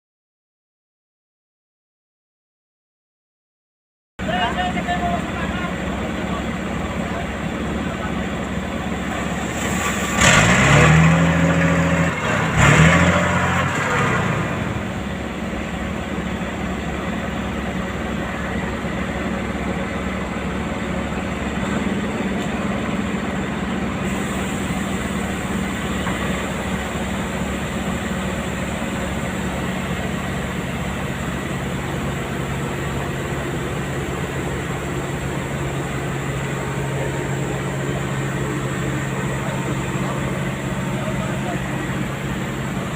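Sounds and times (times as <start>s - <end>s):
heavy equipment engine revving: 5.2s - 42.9s.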